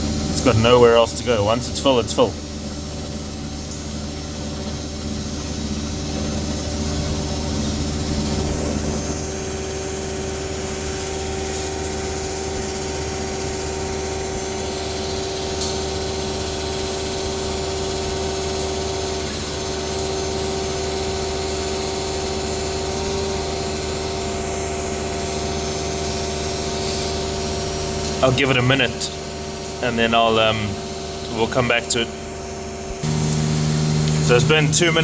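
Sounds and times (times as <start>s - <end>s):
vacuum pump engine running: 0.0s - 35.0s.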